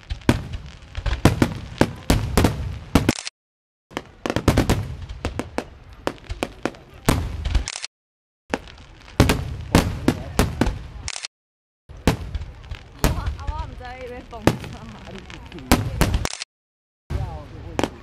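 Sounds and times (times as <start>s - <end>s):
fireworks bangs and pops: 0.0s - 3.3s, 3.9s - 7.9s, 8.5s - 11.3s, 11.9s - 16.5s, 17.1s - 18.0s.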